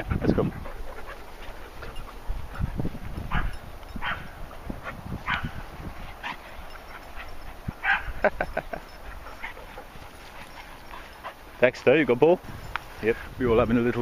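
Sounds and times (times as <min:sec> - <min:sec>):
dogs barking: 0:00.0 - 0:11.6.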